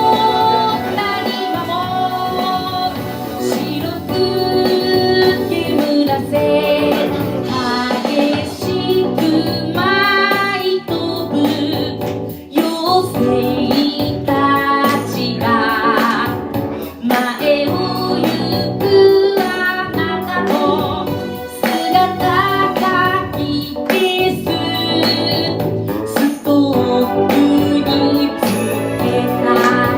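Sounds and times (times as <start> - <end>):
instrumental accompaniment: 0.0 - 29.9
person singing with vibrato: 0.0 - 29.9.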